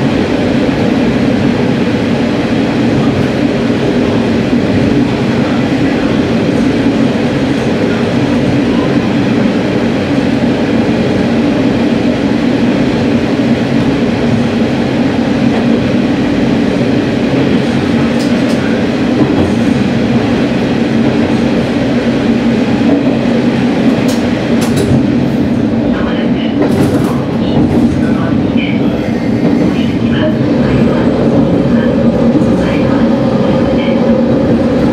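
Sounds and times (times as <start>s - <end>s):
diesel railcar engine drone: 0.0s - 34.9s
train wheels on rails: 0.0s - 34.9s.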